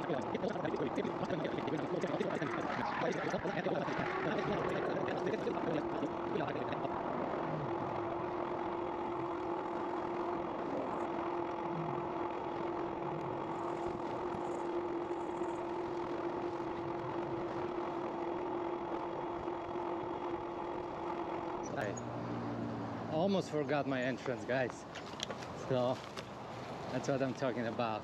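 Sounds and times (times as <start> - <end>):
electric bike motor whining: 0.0 - 28.0.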